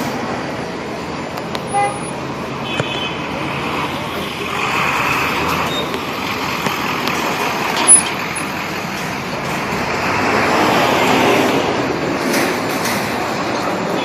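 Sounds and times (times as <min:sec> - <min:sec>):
vehicles passing: 0:00.0 - 0:14.0.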